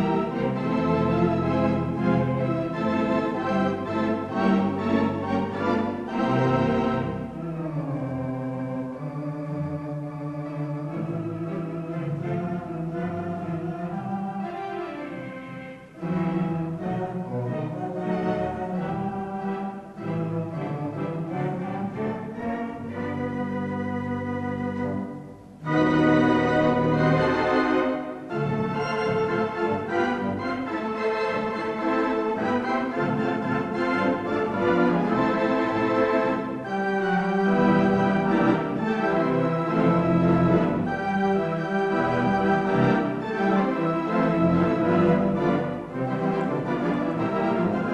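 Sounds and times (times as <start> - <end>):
theatre pipe organ chords: 0.0 - 47.9.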